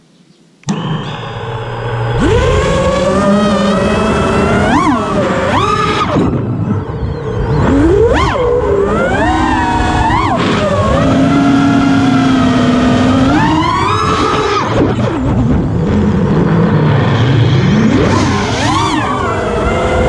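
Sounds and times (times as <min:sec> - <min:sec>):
drone motors whining: 0:00.6 - 0:20.0.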